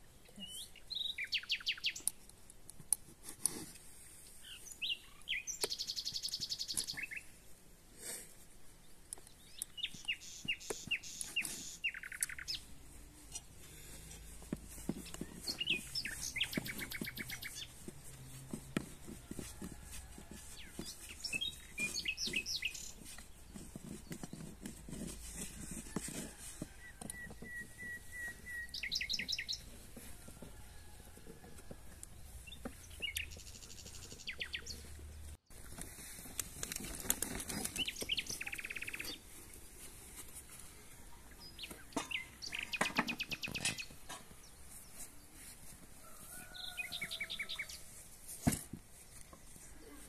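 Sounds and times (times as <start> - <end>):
songbirds chirping and trilling: 0.0 - 7.6, 8.3 - 50.0.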